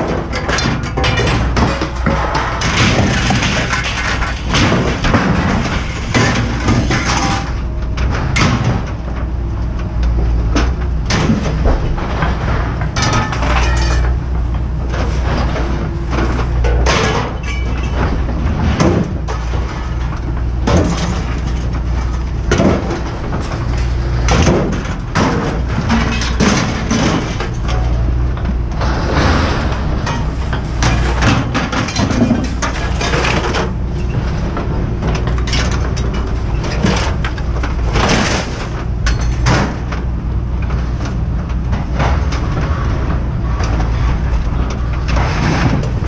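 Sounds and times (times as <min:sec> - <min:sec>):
scrap metal clanking into bin: 0:00.0 - 0:09.0, 0:10.6 - 0:14.2, 0:14.9 - 0:40.0, 0:41.8 - 0:46.0
low machinery rumble: 0:00.0 - 0:46.0.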